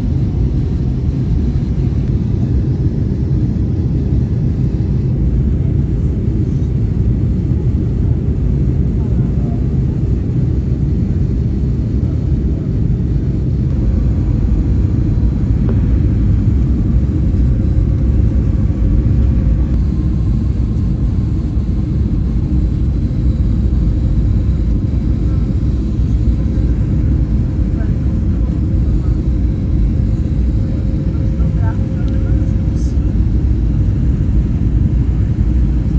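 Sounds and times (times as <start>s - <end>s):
airliner engine roar in cabin: 0.0s - 35.9s.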